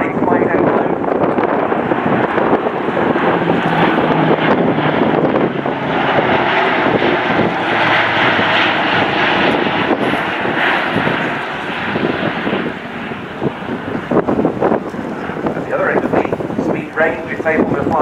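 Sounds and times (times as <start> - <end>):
turboprop aircraft drone overhead: 0.0 - 18.0.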